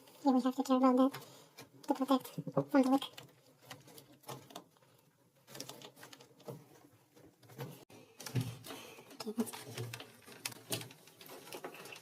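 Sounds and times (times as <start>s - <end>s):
hands handling plastic parts: 1.0s - 12.0s.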